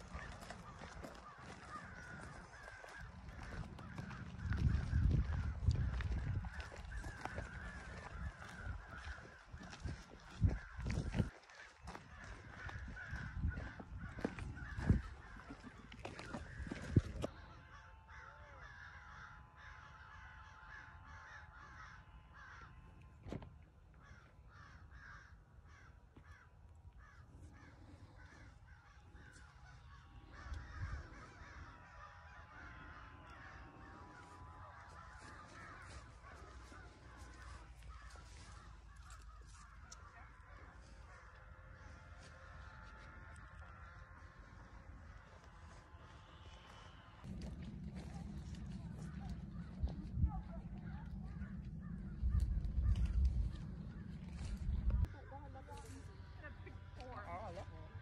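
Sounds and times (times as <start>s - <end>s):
distant crows cawing: 0.0s - 58.0s.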